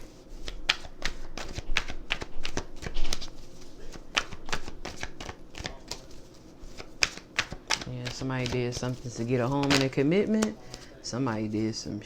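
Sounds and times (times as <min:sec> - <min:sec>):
cards being shuffled: 0:00.0 - 0:11.4.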